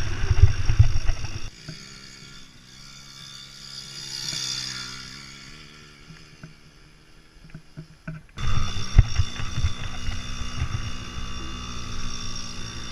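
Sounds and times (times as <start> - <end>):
minibike engine running: 0.0 - 12.9.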